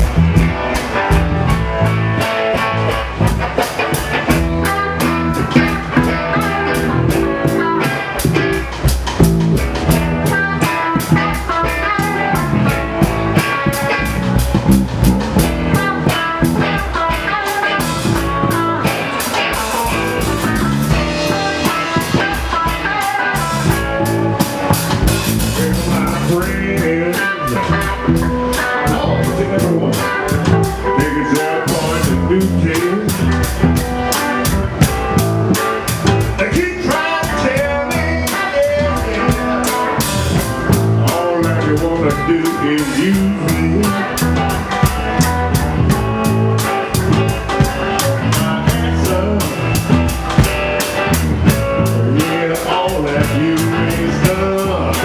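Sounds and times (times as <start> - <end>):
blues-rock band playing: 0.0 - 55.0
electric guitar: 0.0 - 55.0
steady drum beat: 0.0 - 55.0.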